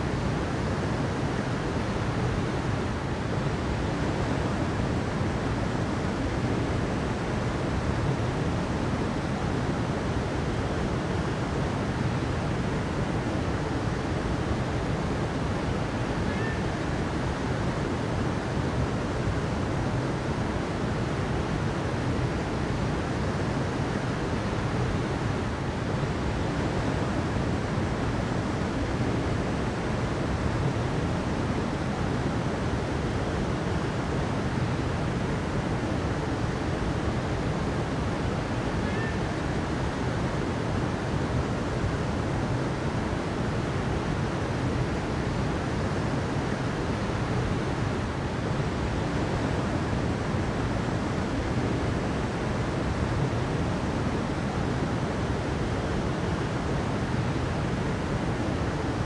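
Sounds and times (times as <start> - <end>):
water rushing: 0.1 - 59.0.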